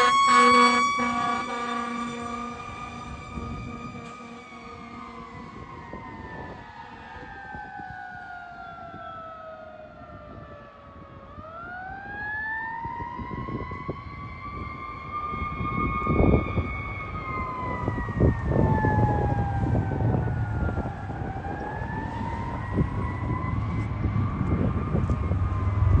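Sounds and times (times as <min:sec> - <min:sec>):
fire engine wail siren: 0:00.0 - 0:26.0
road traffic rumble: 0:00.0 - 0:26.0.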